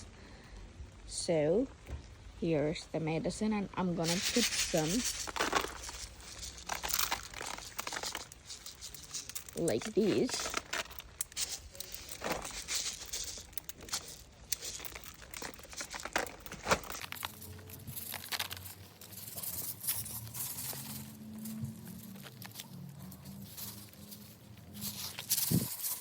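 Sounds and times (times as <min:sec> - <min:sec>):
plastic packet crinkling: 0:03.8 - 0:26.0.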